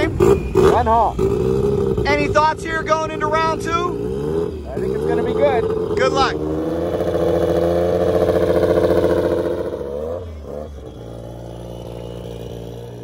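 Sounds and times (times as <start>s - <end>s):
snowmobile engines idling: 0.0s - 13.0s.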